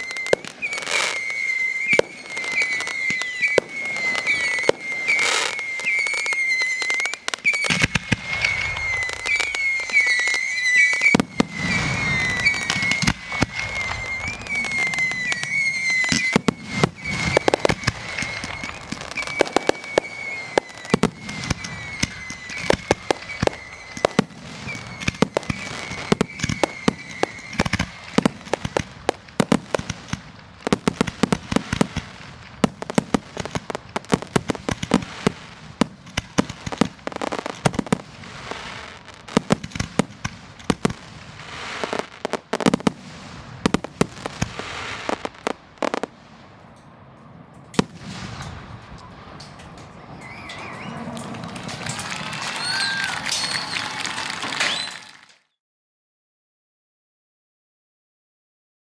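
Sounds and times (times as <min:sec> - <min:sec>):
whistling fireworks shells: 0:00.0 - 0:43.0, 0:43.6 - 0:55.6
fireworks crackling and popping: 0:00.0 - 0:46.8, 0:47.4 - 0:55.6.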